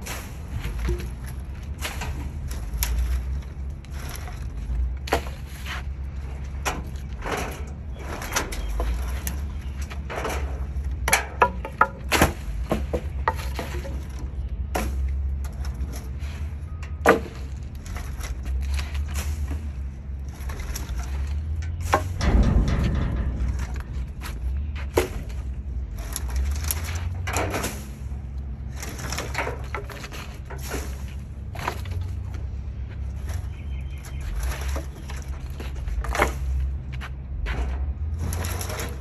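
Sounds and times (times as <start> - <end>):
steady low rumble: 0.0 - 39.0
wood clunking onto truck tray: 0.6 - 16.1, 16.8 - 32.5.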